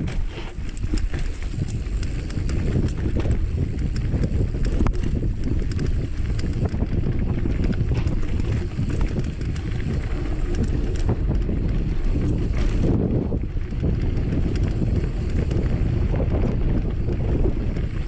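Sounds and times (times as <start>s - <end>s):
bike clicks and rattles: 0.0s - 18.0s
bike tyres rumbling on dirt: 0.0s - 18.0s
wind buffeting microphone: 0.0s - 18.0s.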